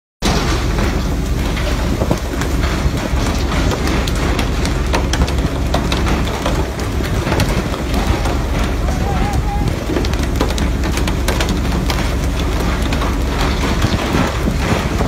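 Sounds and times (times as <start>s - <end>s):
low rumble: 0.2s - 15.0s
sharp clicks and knocks: 0.2s - 15.0s
wind: 0.2s - 15.0s.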